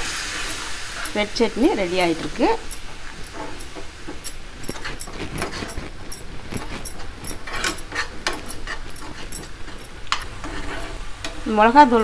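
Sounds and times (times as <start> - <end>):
utensil scraping a pan: 0.0 - 11.8.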